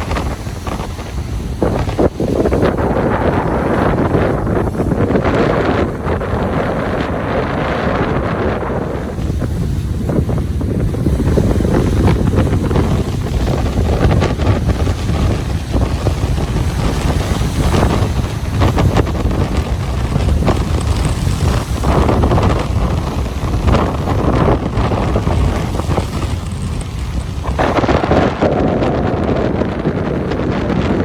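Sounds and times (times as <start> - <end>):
ocean waves washing on beach: 0.0 - 31.0
wind buffeting microphone: 0.0 - 31.0.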